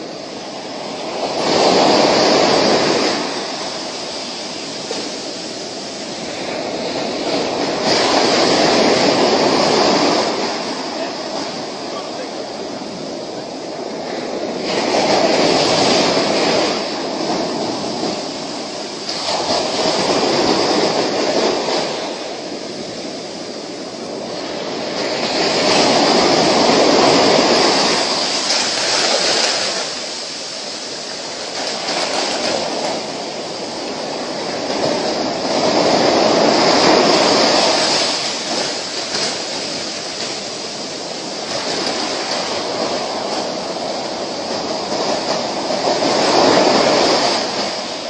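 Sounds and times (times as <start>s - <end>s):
ocean surf breaking on beach: 0.0s - 48.0s.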